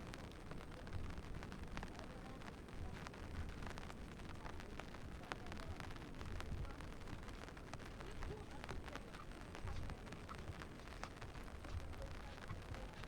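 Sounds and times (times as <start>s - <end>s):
raindrops and drips ticking: 0.0s - 13.0s.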